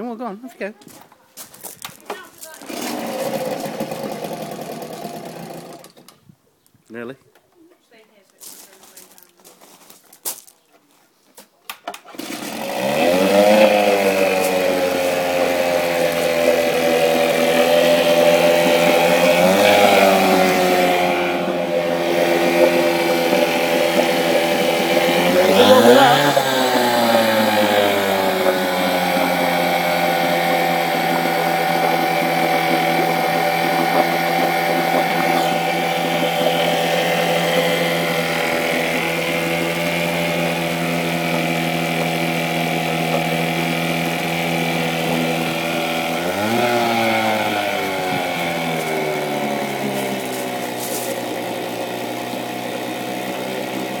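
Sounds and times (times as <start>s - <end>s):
outboard motor running: 2.6s - 6.0s, 12.1s - 54.0s.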